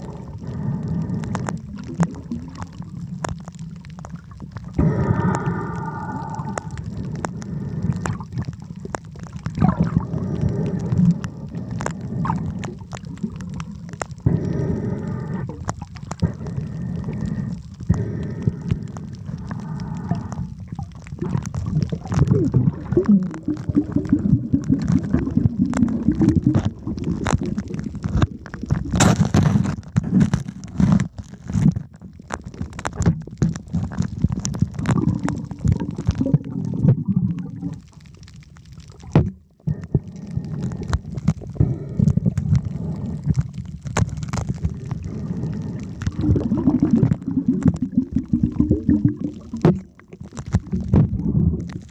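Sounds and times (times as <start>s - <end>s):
small underwater clicks and crackles: 0.0s - 51.9s
underwater water rumble: 0.0s - 51.9s.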